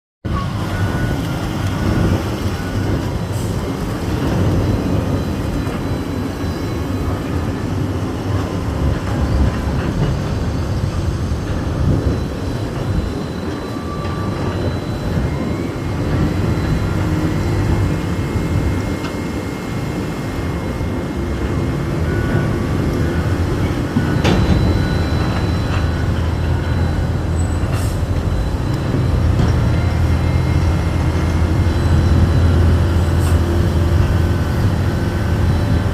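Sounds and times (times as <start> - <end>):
diesel engines running under load: 0.3 - 35.9.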